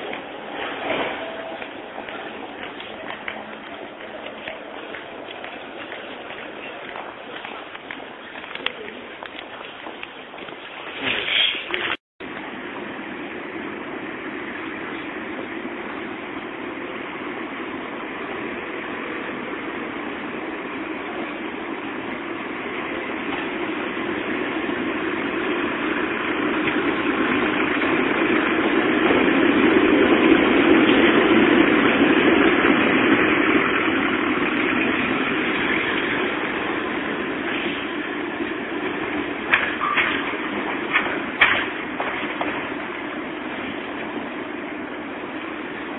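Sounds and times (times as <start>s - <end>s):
tram passing on rails: 0.0s - 45.9s.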